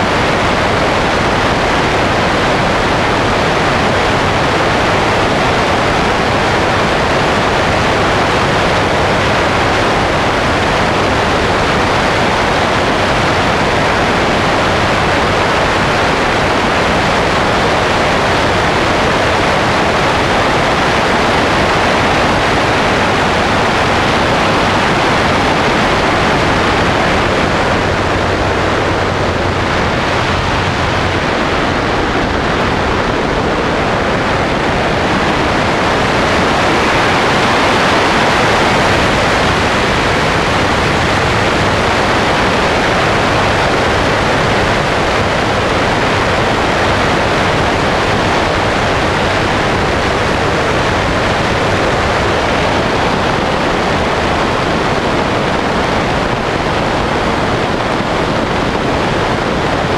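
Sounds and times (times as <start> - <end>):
aircraft engine and propeller drone: 0.0 - 59.9
airflow rushing over aircraft: 0.0 - 59.9.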